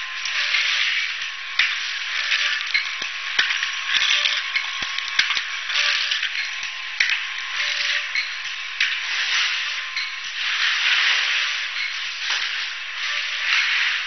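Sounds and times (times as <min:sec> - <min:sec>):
high machine whine: 0:00.0 - 0:14.0
machine hiss: 0:00.0 - 0:14.0.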